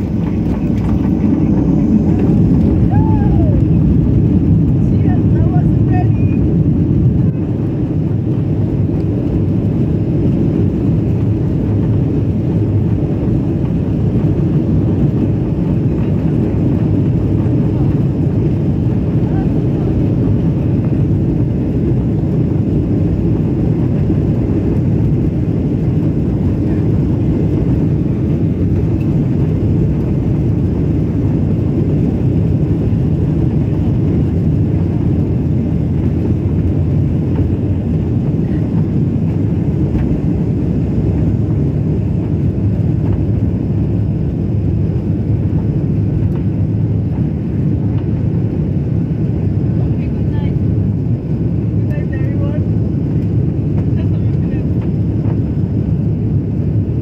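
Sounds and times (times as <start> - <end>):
jet engines at takeoff thrust: 0.0 - 57.0.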